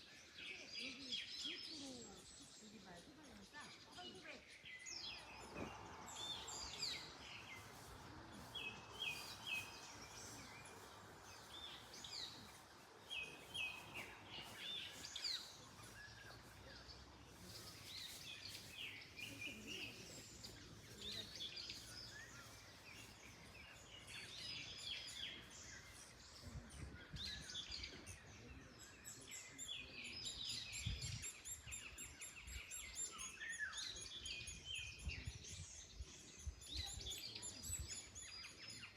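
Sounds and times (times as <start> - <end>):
birds chirping and singing: 0.0 - 38.9
wind through trees: 0.0 - 38.9.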